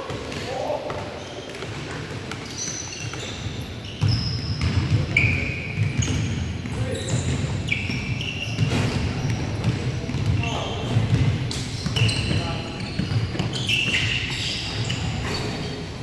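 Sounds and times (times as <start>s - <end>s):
basketball bouncing: 0.0s - 15.0s
sneakers squeaking on hardwood: 0.0s - 16.0s.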